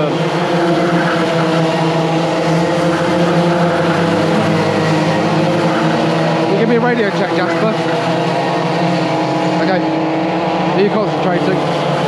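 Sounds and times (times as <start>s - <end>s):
kart engines droning: 0.0s - 12.0s.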